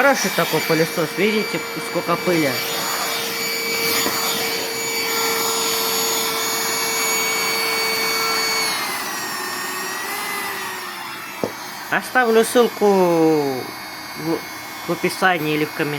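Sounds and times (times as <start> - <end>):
vacuum cleaner motor whine: 0.0 - 15.9.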